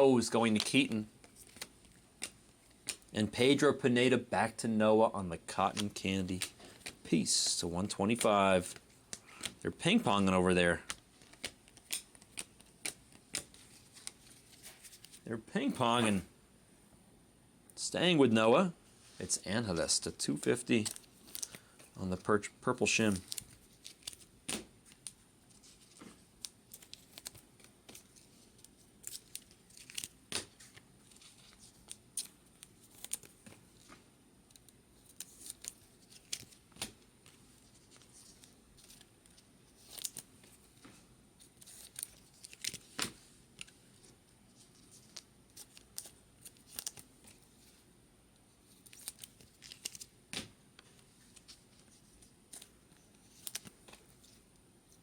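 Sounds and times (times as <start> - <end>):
cards clicking and rustling: 0.4 - 3.1, 5.6 - 16.2, 20.2 - 47.8, 48.7 - 54.4.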